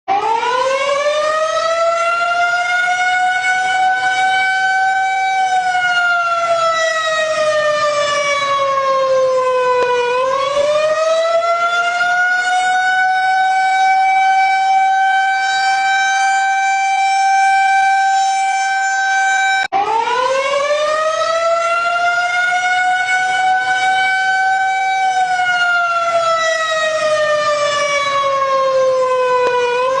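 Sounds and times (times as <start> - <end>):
siren wailing: 0.1 - 30.0.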